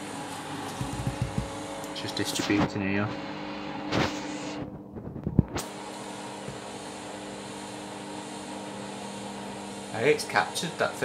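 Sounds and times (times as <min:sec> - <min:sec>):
washing machine drum whirring: 0:00.0 - 0:03.9, 0:04.6 - 0:11.0.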